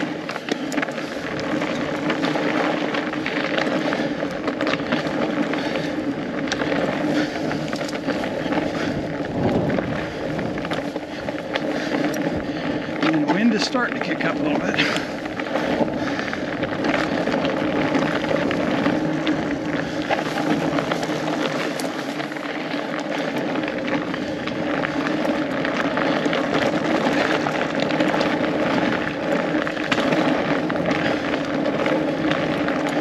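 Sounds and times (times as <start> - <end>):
bike tires crackling on snow: 0.0 - 33.0
wind buffeting microphone: 0.0 - 33.0.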